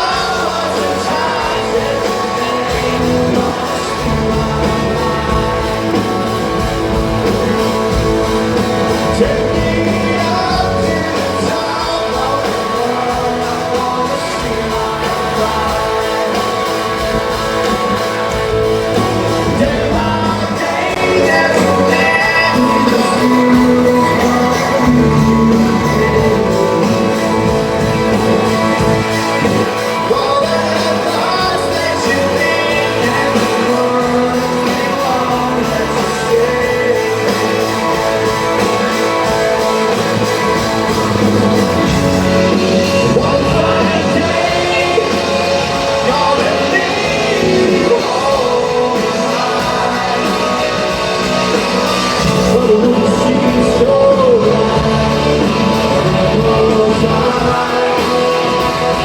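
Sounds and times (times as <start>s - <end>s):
live rock band playing: 0.0s - 59.0s
man singing lead vocal: 0.0s - 59.0s.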